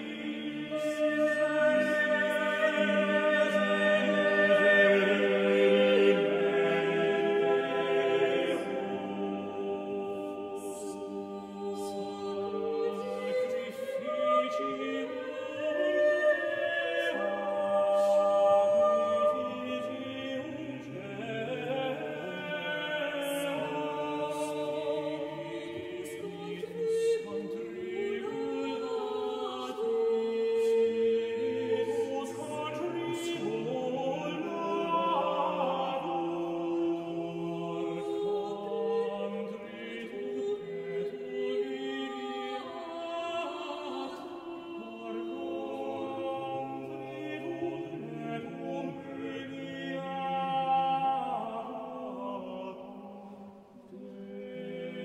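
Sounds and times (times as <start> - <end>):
choir singing chant: 0.0 - 55.0.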